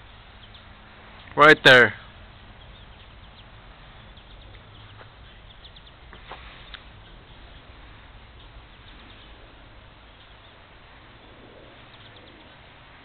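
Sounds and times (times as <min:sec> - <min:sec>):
low background hiss: 0:00.0 - 0:13.0
high bird chirps: 0:02.0 - 0:12.7.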